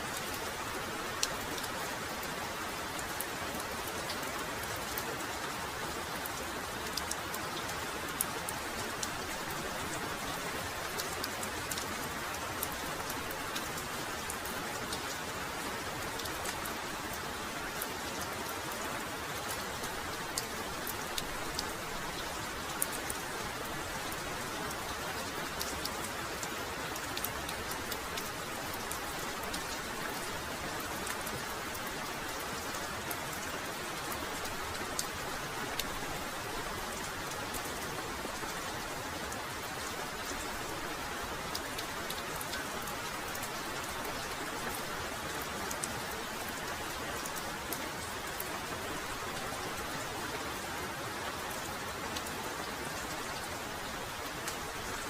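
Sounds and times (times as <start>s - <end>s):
raindrops ticking: 0.1s - 50.4s.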